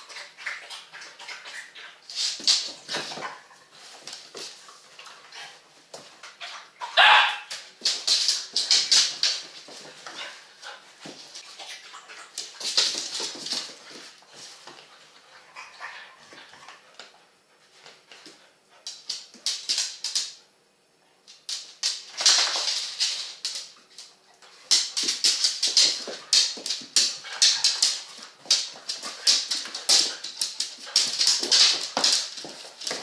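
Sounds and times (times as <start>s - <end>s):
dogs scuffling: 0.0s - 20.4s, 21.3s - 33.0s.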